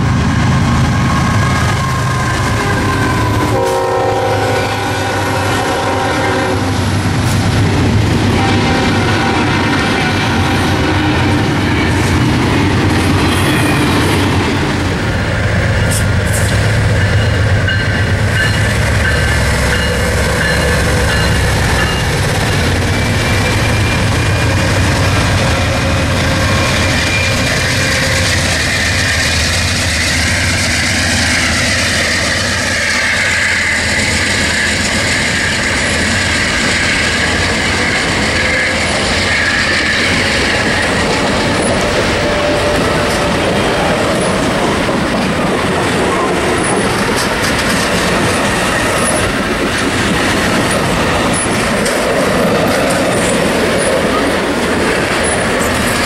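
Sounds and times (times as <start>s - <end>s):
locomotive engines rumbling: 0.0s - 56.0s
train wheels on rails: 0.0s - 56.0s.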